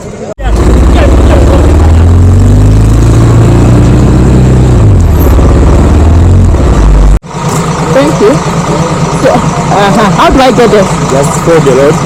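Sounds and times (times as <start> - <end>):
vehicle engine accelerating: 0.4 - 12.0.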